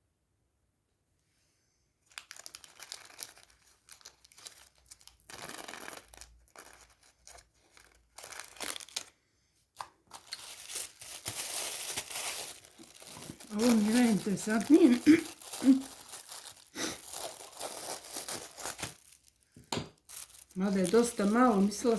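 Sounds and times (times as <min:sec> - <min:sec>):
packaging tearing and crinkling: 0:02.1 - 0:09.1, 0:10.1 - 0:21.9.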